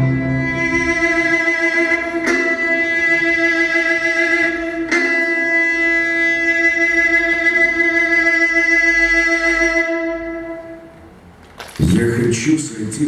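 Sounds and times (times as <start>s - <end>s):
violin long note with vibrato: 0.0s - 11.3s.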